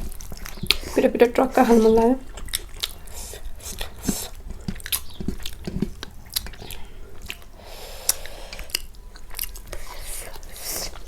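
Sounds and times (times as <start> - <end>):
chewing and biting food: 0.0 - 11.0
mouth clicks: 0.0 - 11.0.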